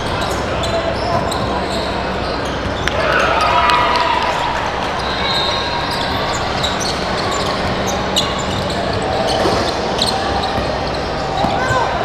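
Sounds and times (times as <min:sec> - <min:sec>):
murmur of spectators: 0:00.0 - 0:12.0
sneaker squeaks: 0:00.0 - 0:12.0.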